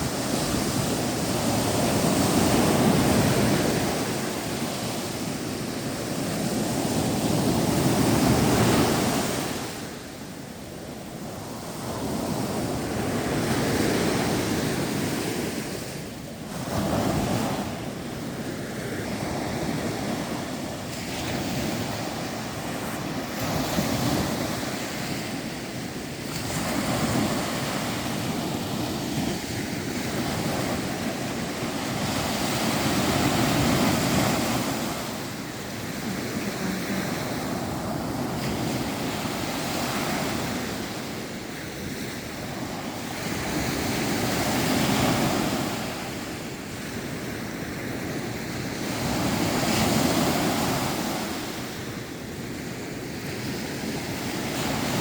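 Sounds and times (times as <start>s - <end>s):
waves washing in: 0.0s - 55.0s.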